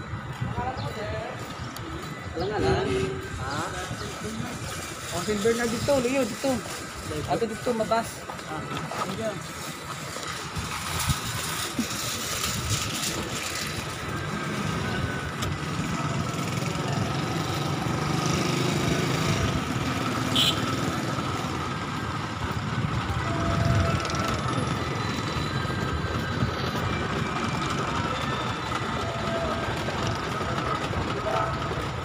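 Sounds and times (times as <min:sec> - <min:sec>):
vehicle engines idling: 0:00.0 - 0:32.0.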